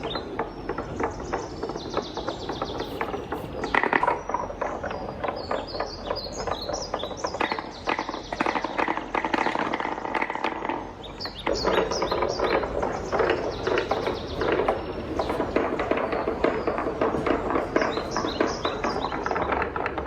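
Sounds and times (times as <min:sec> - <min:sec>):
wooden balls clattering down run: 0:00.0 - 0:20.0.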